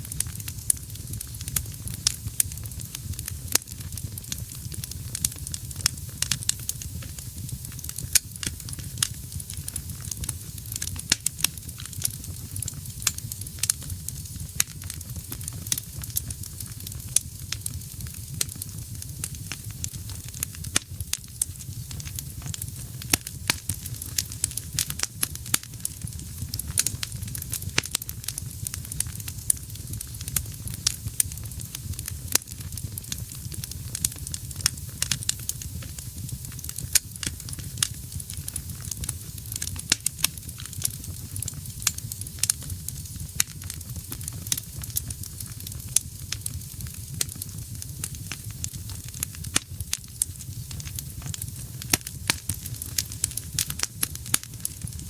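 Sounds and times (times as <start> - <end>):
burning logs crackling and popping: 0.0 - 55.0
low rumble of flames: 0.0 - 55.0.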